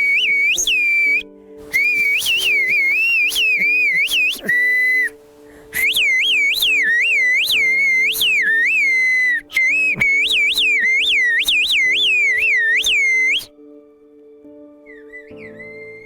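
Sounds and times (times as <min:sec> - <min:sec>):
piercing human whistling: 0:00.0 - 0:13.5, 0:14.8 - 0:16.0.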